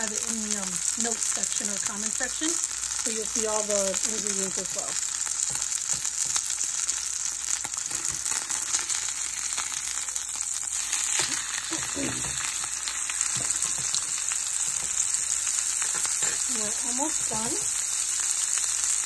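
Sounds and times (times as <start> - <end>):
meat sizzling in a skillet: 0.0 - 19.0.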